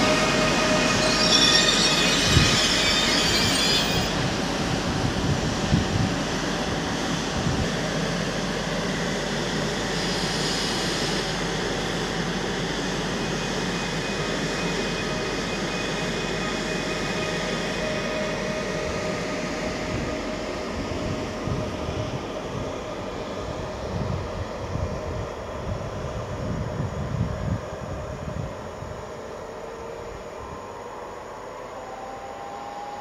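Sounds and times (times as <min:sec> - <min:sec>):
train rail rumble: 0:00.0 - 0:31.1
electric train drive whine: 0:00.0 - 0:33.0.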